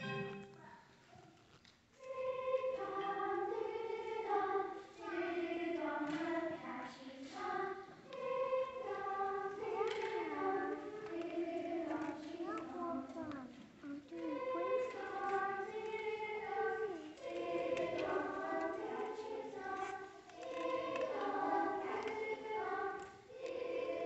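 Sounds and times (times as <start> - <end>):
children singing in unison: 2.0 - 13.2, 14.0 - 24.0.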